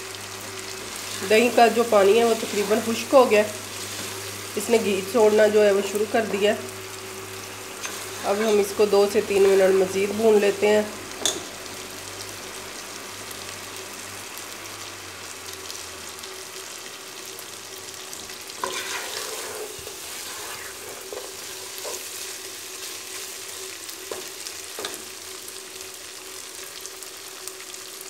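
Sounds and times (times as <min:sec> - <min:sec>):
meat sizzling in a pot: 0:00.0 - 0:28.0.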